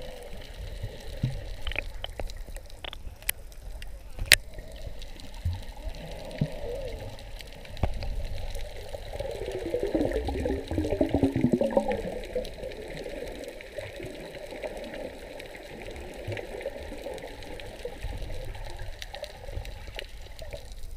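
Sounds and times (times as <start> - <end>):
underwater water sloshing: 0.0 - 20.9.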